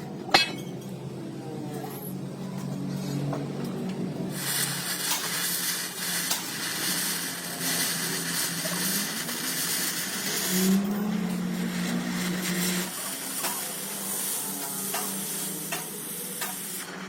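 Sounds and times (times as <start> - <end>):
crackling hiss from metalwork: 2.8 - 17.0.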